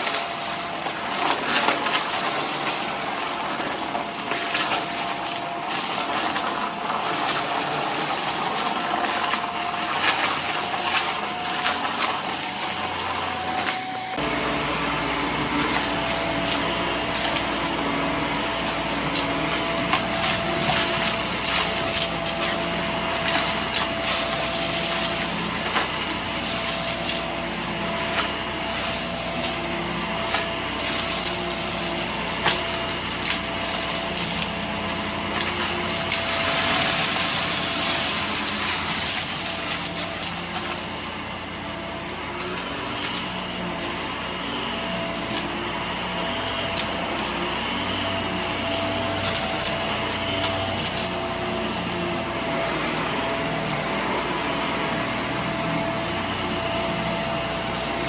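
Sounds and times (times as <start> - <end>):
debris rattling in vacuum: 0.0 - 54.6, 56.4 - 58.0
vacuum cleaner motor whine: 0.0 - 58.0.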